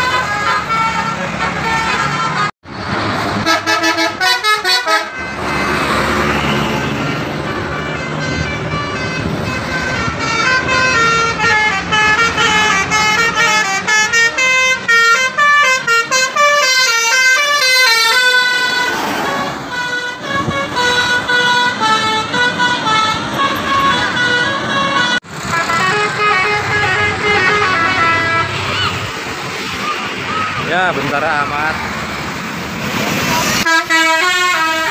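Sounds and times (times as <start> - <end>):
multi-tone bus horn tune: 0.0 - 2.6, 3.3 - 29.1, 33.4 - 34.9
road traffic: 0.0 - 34.9.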